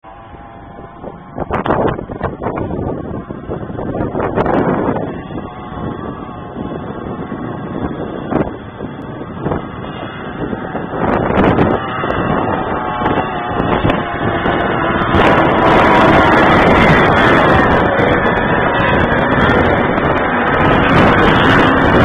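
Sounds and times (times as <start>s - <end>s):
outboard motors running: 0.0s - 22.0s
wind buffeting microphone: 0.0s - 22.0s.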